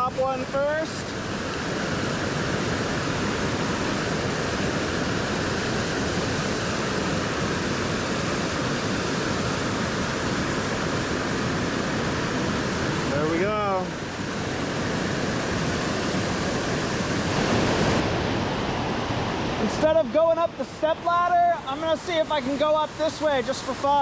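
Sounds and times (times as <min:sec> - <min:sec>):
creek waterfall rushing: 0:00.0 - 0:24.0.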